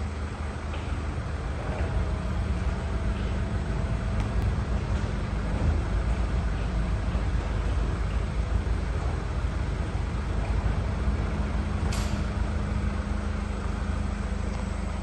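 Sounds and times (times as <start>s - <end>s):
faint hum: 0.0s - 15.0s
low mechanical rumble: 0.0s - 15.0s.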